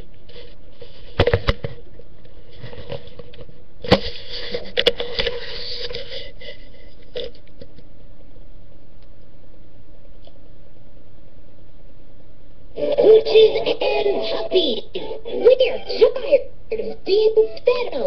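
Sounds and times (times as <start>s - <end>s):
steady faint hum: 0.0s - 18.0s.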